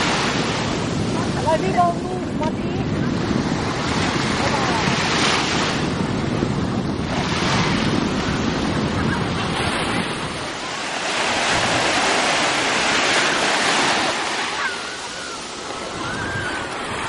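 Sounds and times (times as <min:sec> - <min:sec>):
waves washing up a beach: 0:00.0 - 0:17.0
wind buffeting microphone: 0:00.0 - 0:17.0.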